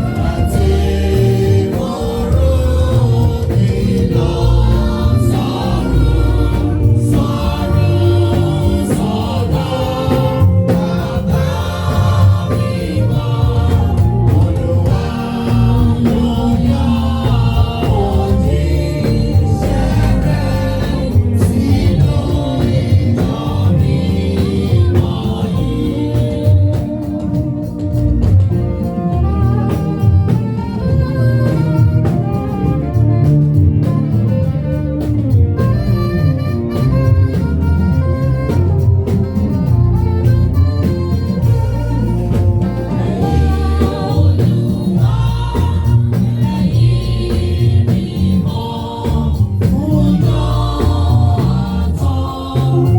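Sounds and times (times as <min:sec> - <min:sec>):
band accompaniment: 0:00.0 - 0:52.9
choir and congregation singing: 0:00.0 - 0:52.9.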